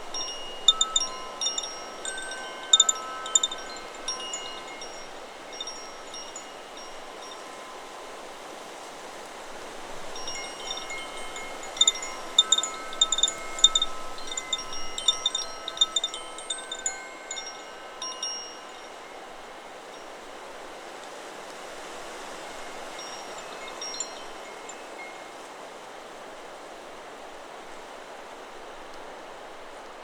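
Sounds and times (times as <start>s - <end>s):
wind chimes ringing: 0.0s - 20.8s, 21.6s - 25.6s
wind hissing: 0.0s - 25.5s.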